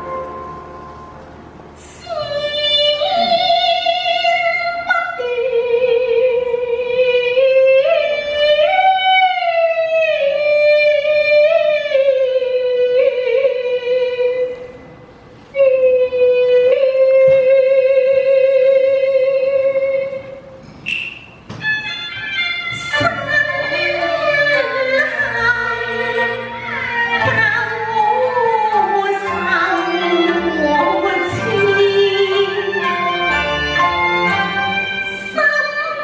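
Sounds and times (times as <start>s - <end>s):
woman singing opera into microphone: 1.8s - 14.7s, 15.5s - 20.4s, 22.7s - 33.0s, 35.0s - 36.0s.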